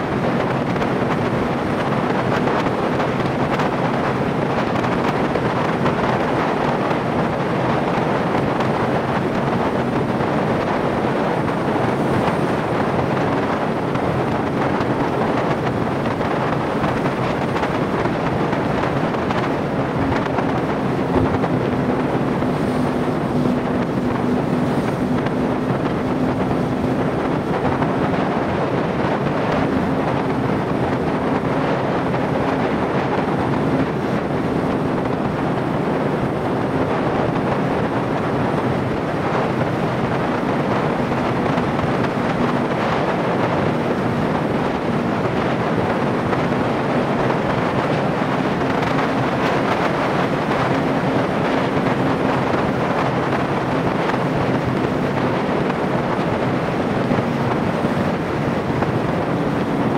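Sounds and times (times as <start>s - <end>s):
faint engine hum: 0.0s - 59.9s
wind rushing over microphone: 0.0s - 59.9s.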